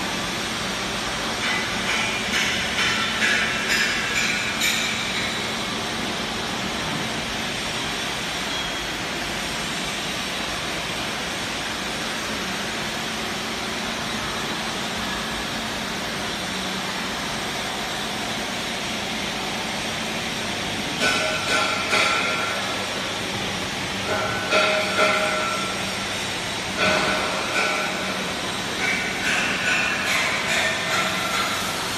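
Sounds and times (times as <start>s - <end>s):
machine whirring hiss: 0.0s - 31.9s.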